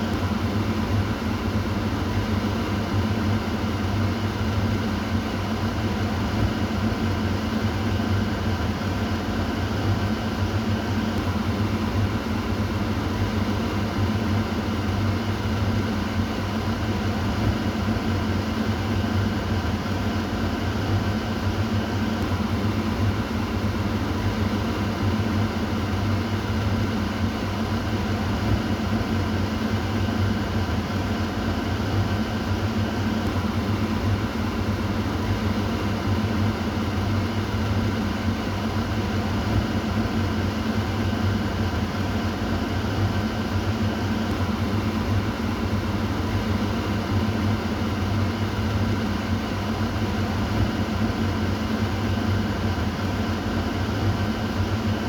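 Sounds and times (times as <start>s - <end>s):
exhaust fan running: 0.0s - 55.0s.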